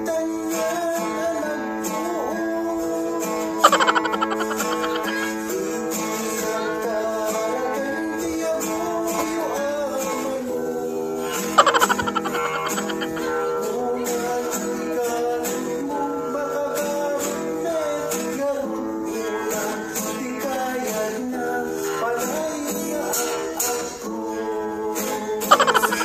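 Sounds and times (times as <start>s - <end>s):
acoustic guitar strumming: 0.0s - 26.0s
man singing: 0.0s - 26.0s.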